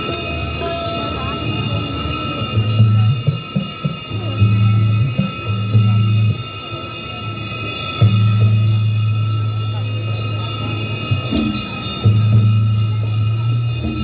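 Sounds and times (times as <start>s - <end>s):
bells ringing: 0.0s - 14.0s.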